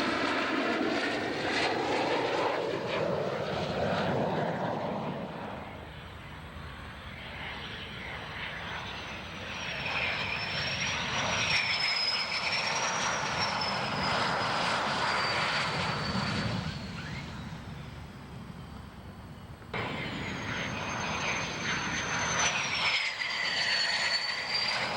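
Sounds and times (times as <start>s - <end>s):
aircraft engine whine: 0.0s - 24.9s.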